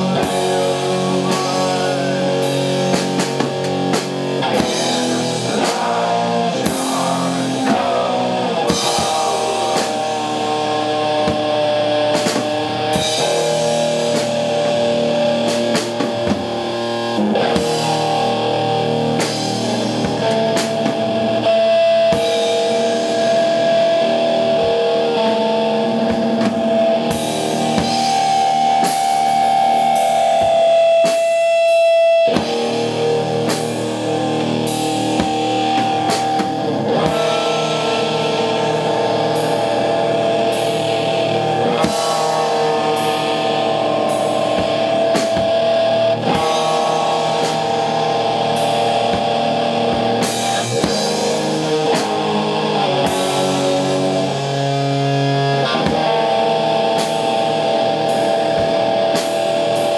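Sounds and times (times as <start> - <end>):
distorted electric guitar: 0.0 - 59.9
drum kit playing: 0.0 - 59.9.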